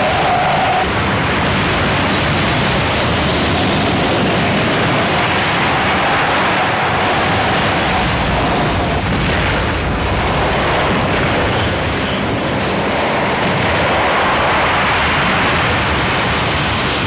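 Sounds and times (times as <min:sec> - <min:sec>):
volcanic eruption rumbling roar: 0:00.0 - 0:17.0.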